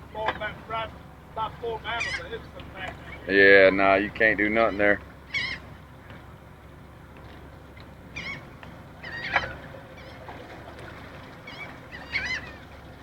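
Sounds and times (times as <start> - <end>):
birds calling: 0.0 - 13.0
low background rumble: 0.0 - 13.0.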